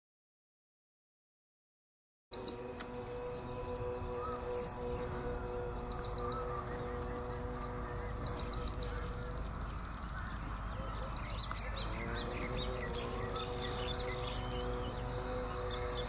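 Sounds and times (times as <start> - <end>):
bird chirps: 2.3 - 16.0
steady hum: 2.4 - 16.0.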